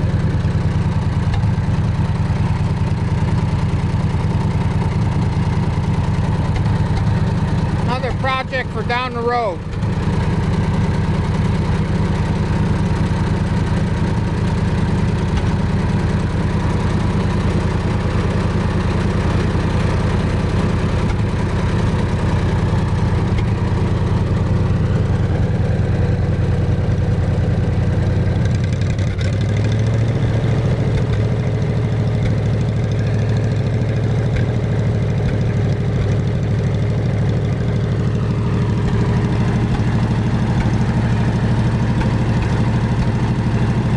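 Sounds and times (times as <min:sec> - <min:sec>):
welder engine running: 0:00.0 - 0:43.9.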